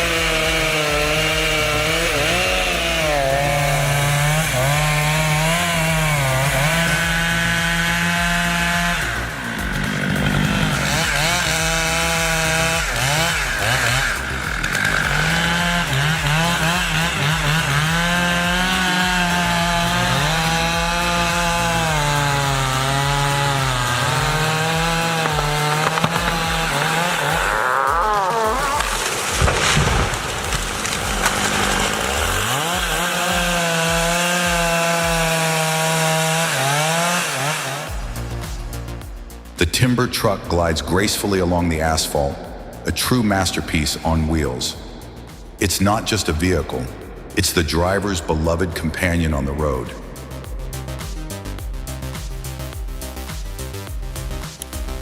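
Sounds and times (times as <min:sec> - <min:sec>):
chainsaw cutting timber: 0:00.0 - 0:55.0.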